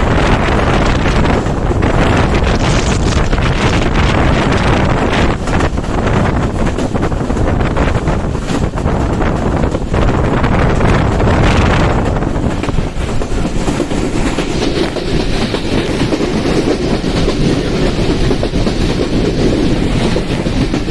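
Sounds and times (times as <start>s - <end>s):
passenger train passing: 0.0s - 20.9s
wheels clattering on rails: 0.0s - 20.9s.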